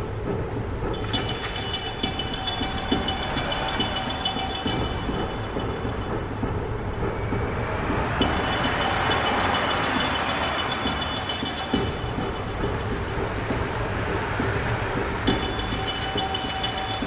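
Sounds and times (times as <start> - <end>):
train rumble on rails: 0.0 - 17.0.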